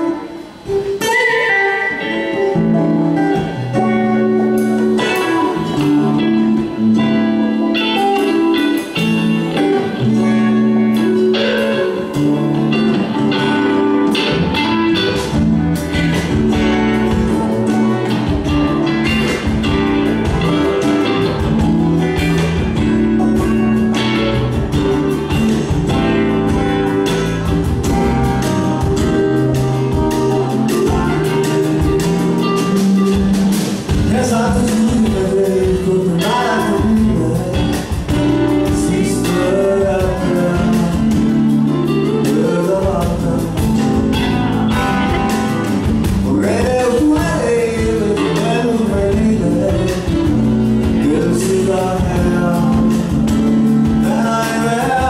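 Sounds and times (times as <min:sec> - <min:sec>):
live band playing: 0:00.0 - 0:55.0
deep bass notes: 0:08.7 - 0:55.0.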